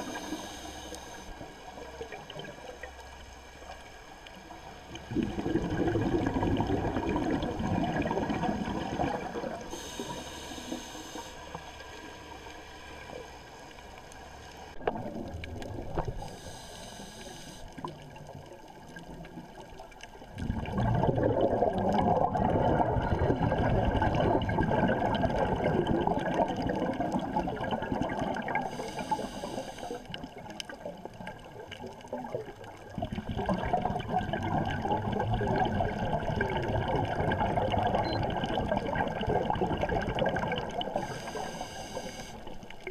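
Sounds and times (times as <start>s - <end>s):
underwater air bubbles gurgling: 0.0s - 42.9s.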